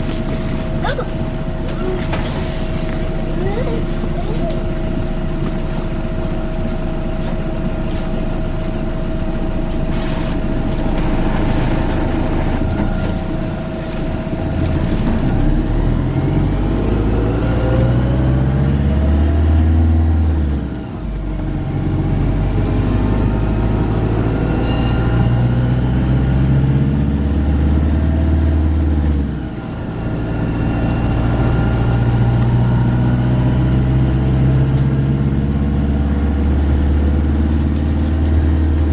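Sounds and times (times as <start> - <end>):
bus engine with rising whine: 0.0 - 38.9.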